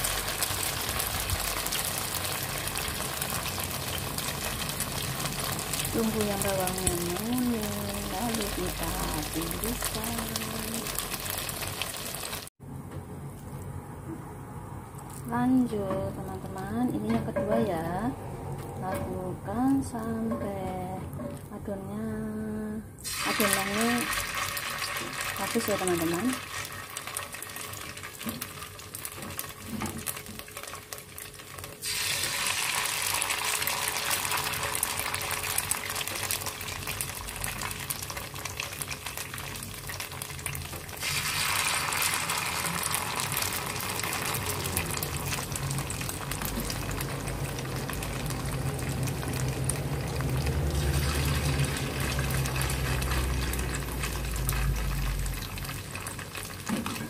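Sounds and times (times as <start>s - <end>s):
hot oil sizzling: 0.0s - 12.6s, 23.0s - 57.0s.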